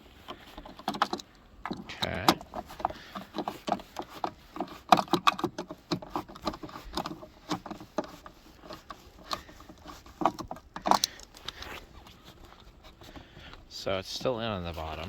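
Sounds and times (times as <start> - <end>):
plastic and metal clicks and knocks: 0.2 - 15.0.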